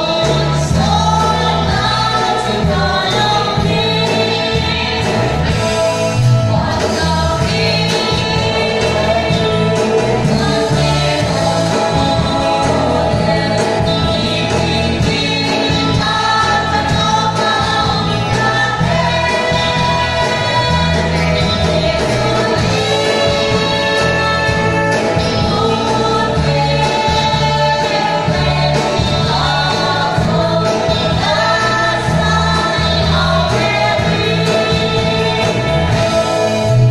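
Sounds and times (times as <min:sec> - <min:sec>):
group singing a hymn: 0:00.0 - 0:36.7
electric guitars: 0:00.0 - 0:36.9
steady bass line: 0:00.0 - 0:36.9.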